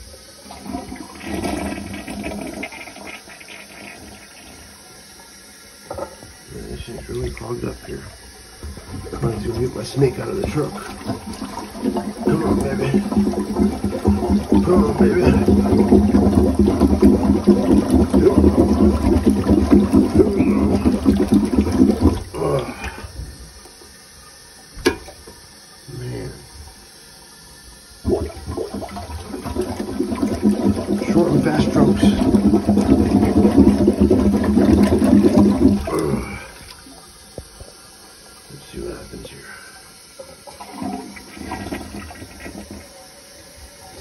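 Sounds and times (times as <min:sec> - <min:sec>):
toilet flushing: 0:00.0 - 0:44.0.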